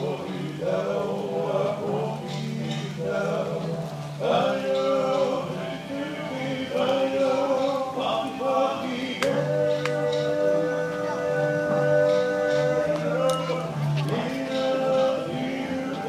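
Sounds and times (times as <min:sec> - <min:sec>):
men singing long held notes: 0:00.0 - 0:16.0.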